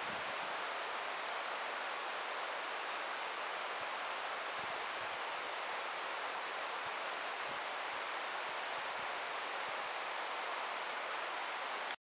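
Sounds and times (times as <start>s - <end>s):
rushing hiss of forest ambience: 0.0s - 12.0s.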